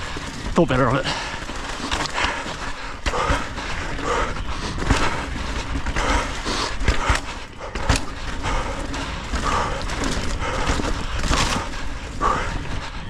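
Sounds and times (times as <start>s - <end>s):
bike tyre and trail noise: 0.0s - 13.0s
chain and frame rattle: 0.0s - 13.0s
wheels knocking on rocks: 0.0s - 13.0s.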